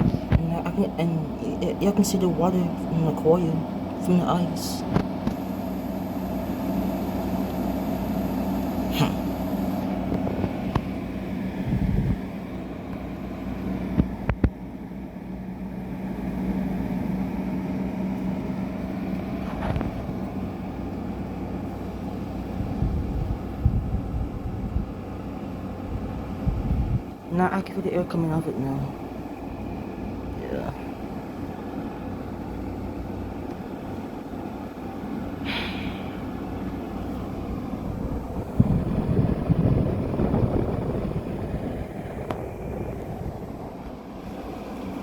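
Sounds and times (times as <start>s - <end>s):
air conditioner fan hum: 0.0s - 45.0s.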